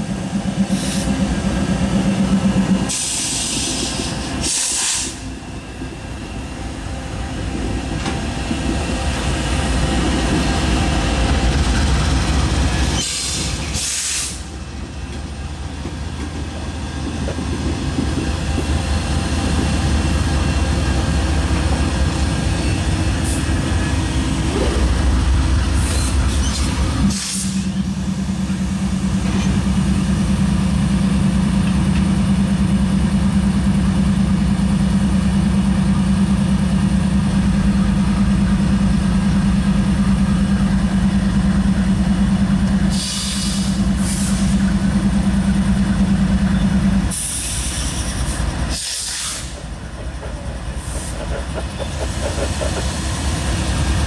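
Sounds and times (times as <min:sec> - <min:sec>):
freight train passing: 0:00.0 - 0:54.0.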